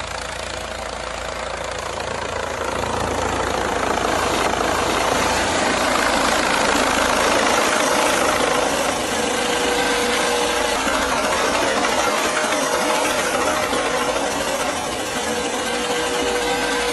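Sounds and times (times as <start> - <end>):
helicopter rotor and engine: 0.0 - 16.9.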